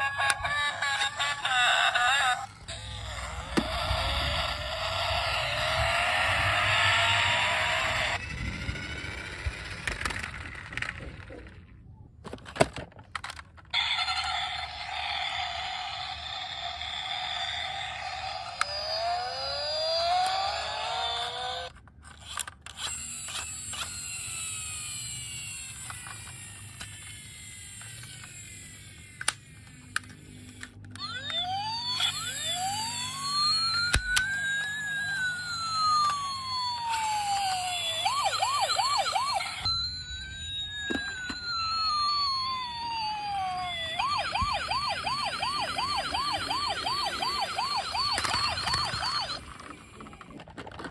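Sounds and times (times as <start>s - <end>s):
toy electronic sirens wailing: 0.0s - 10.9s, 13.2s - 50.7s
toys clicking and knocking: 0.0s - 50.9s.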